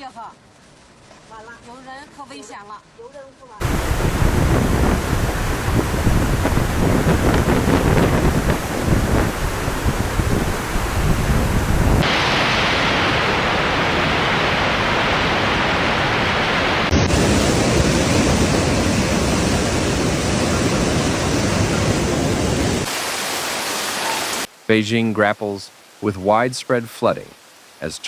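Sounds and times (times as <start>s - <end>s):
heavy rain: 3.6s - 28.0s
rushing floodwater: 3.6s - 28.0s.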